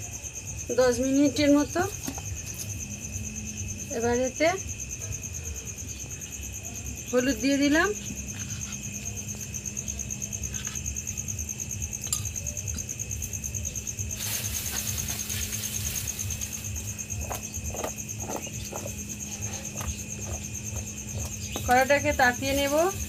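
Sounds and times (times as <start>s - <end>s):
constant low hum: 0.0s - 23.0s
crickets chirring: 0.0s - 23.0s.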